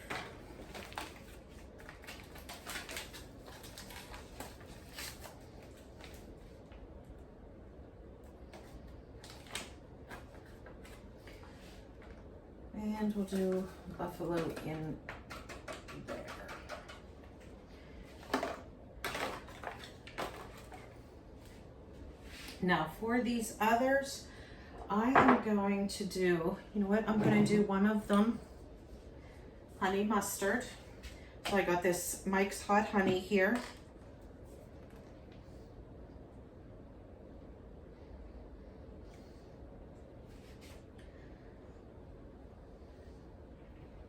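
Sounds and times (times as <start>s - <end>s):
low room hum: 0.0s - 44.0s.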